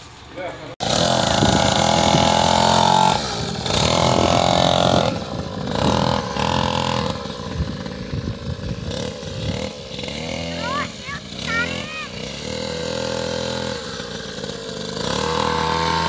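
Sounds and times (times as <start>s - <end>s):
small motorbike engine revving: 0.0s - 16.0s.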